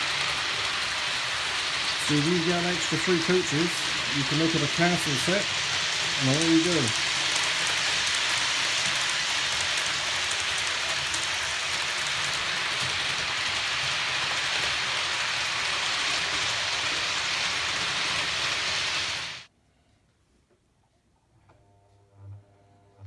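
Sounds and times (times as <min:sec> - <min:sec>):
model train running on track: 0:00.0 - 0:19.5.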